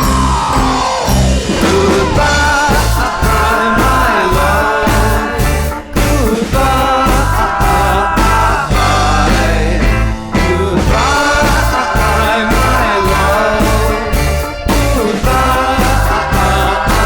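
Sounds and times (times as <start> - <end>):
band playing rock song: 0.0 - 17.0
bass: 0.0 - 17.0
steady drum beat: 0.0 - 17.0.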